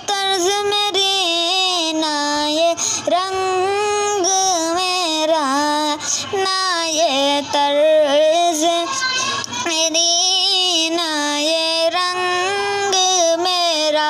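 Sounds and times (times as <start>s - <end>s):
high voice singing devotional song: 0.0s - 14.0s.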